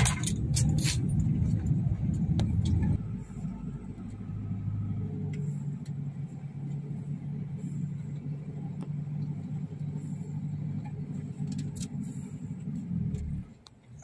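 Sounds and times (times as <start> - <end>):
vehicle engine and tyres rumbling: 0.0 - 14.0.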